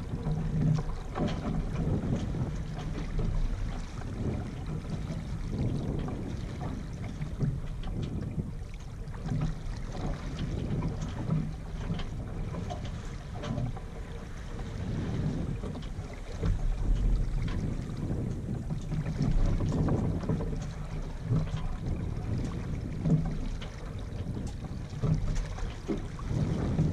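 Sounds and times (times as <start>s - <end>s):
water washing along hull: 0.0s - 26.9s
wind buffeting microphone: 0.0s - 26.9s.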